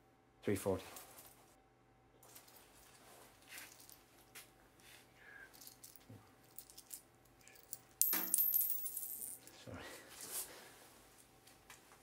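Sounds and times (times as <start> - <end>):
shop room tone: 0.0 - 12.0.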